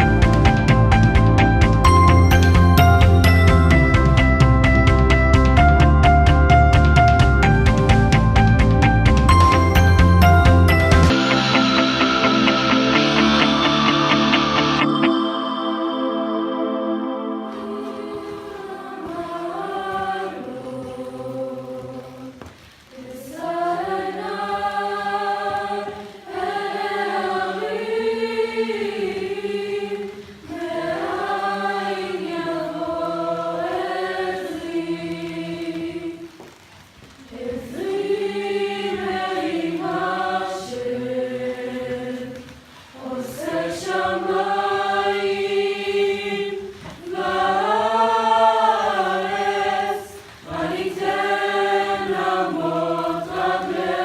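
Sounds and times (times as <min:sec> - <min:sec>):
youth choir singing: 0:09.3 - 0:36.4, 0:37.2 - 0:54.0.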